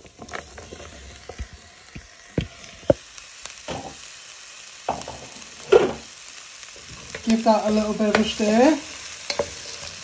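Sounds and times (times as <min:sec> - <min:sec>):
onions frying in a pan: 0:00.0 - 0:10.0.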